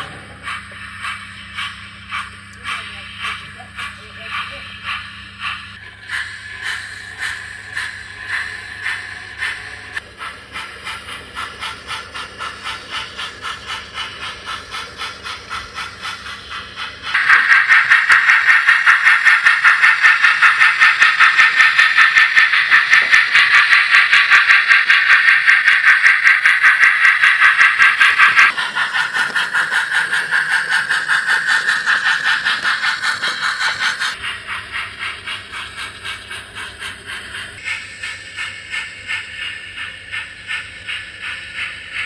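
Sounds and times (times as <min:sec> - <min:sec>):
model steam locomotive chuffing: 0:00.0 - 0:42.0.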